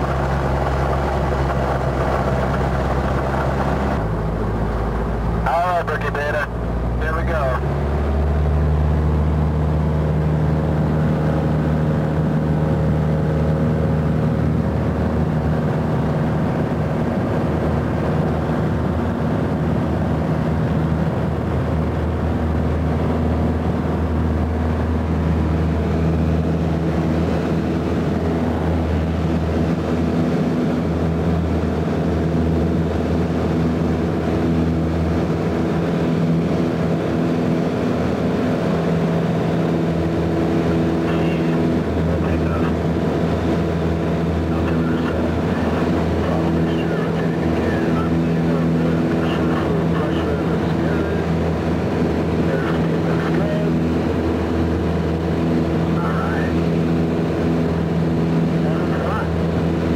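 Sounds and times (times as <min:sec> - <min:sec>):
propeller airplane engine running: 0:00.0 - 0:59.9.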